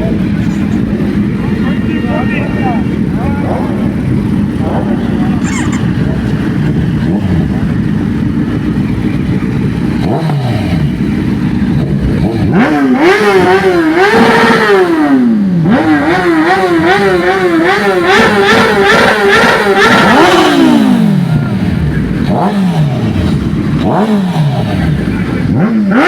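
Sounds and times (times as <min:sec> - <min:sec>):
motorcycle engine revving: 0:00.0 - 0:26.0
road noise: 0:00.0 - 0:26.0.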